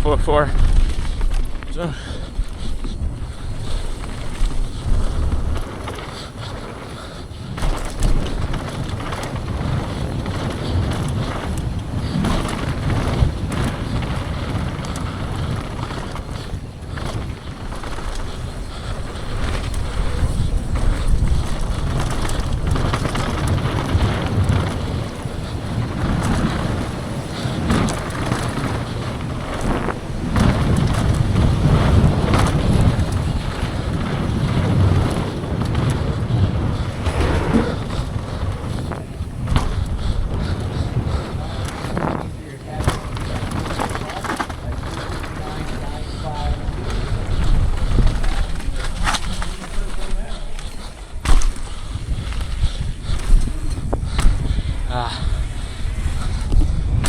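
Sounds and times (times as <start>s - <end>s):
bike tyres on dirt: 0.0s - 57.0s
wind buffeting microphone: 0.0s - 57.0s.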